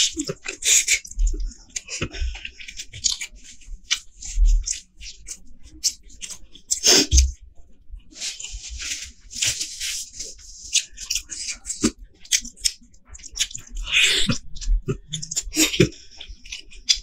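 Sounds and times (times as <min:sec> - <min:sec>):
wet chewing: 0:00.0 - 0:07.4, 0:08.1 - 0:17.0.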